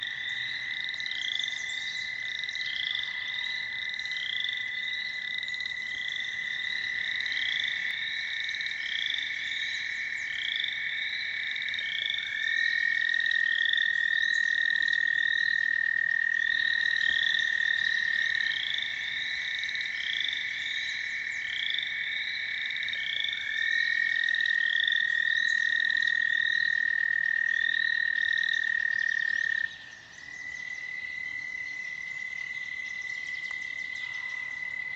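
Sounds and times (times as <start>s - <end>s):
toads trilling: 0.0s - 34.9s.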